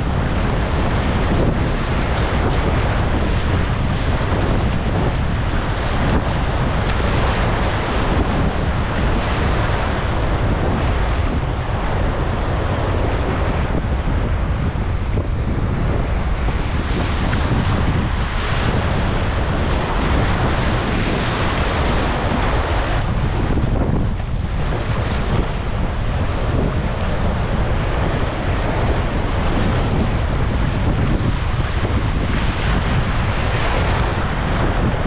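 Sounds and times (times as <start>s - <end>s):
river rushing and splashing: 0.0s - 35.0s
wind buffeting microphone: 0.0s - 35.0s.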